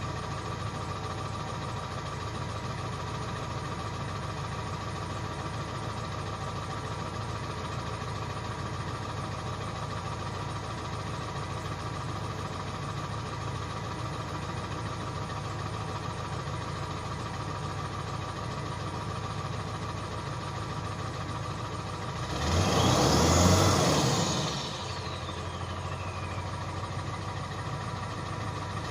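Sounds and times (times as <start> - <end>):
diesel engine idling and revving: 0.0 - 28.9.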